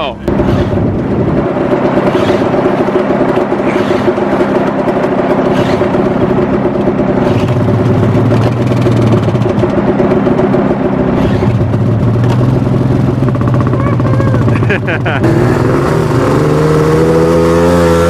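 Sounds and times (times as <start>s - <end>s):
snowmobile engine idling: 0.0s - 15.3s
deeper engine note: 0.0s - 18.0s.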